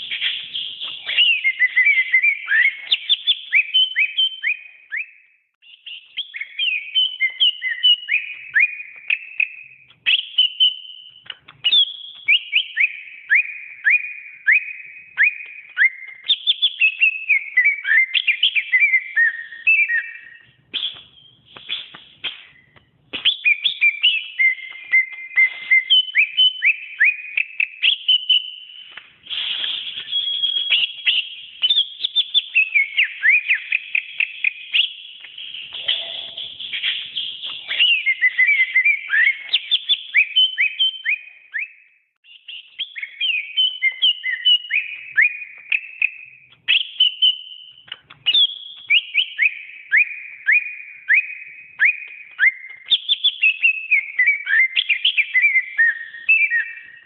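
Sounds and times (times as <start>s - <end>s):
bird singing whistled notes: 0.0s - 57.0s.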